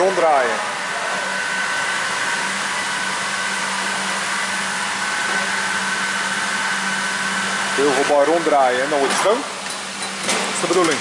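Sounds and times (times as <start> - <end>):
constant high whine: 0.0 - 11.0
machinery hum and hiss: 0.0 - 11.0.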